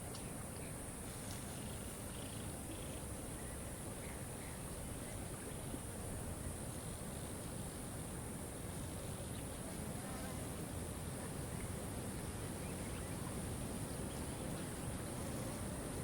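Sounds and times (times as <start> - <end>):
constant high hiss: 0.0 - 16.0.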